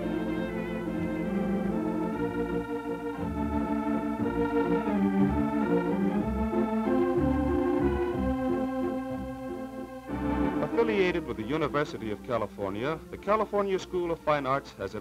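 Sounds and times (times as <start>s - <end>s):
background score music: 0.0s - 15.0s.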